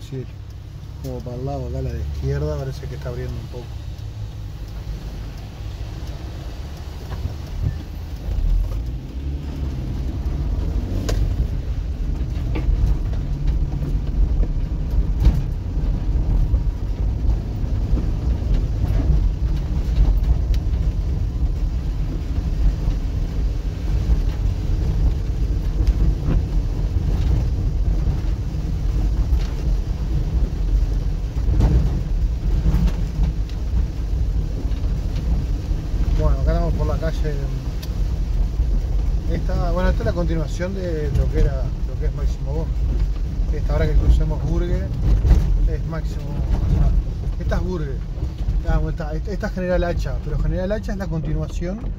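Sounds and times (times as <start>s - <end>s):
car engine and tyre rumble: 0.0s - 51.9s.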